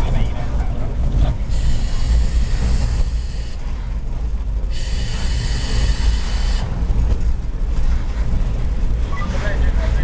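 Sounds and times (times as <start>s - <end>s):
tram low rumble: 0.0s - 10.0s.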